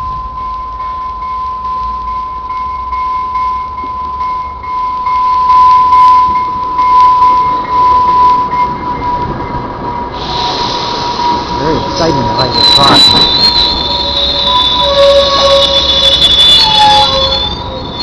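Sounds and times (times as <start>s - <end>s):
high ringing tone: 0.0s - 10.1s, 11.2s - 18.0s.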